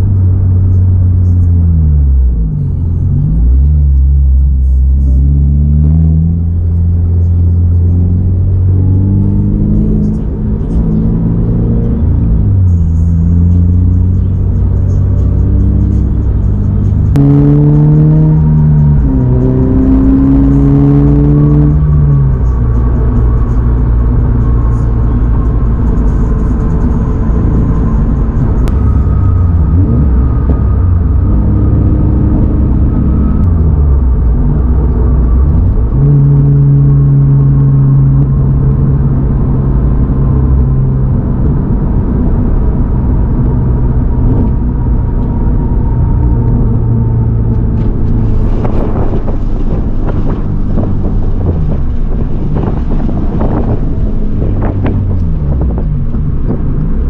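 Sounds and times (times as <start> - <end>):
car engine running while driving: 0.0 - 57.0.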